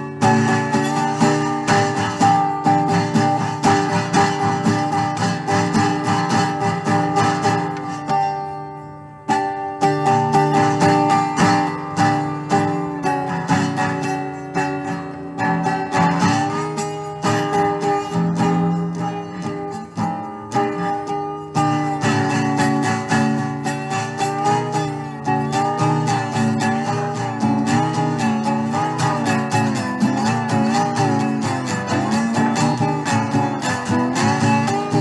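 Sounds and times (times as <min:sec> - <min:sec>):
slide guitar: 0:00.0 - 0:35.0.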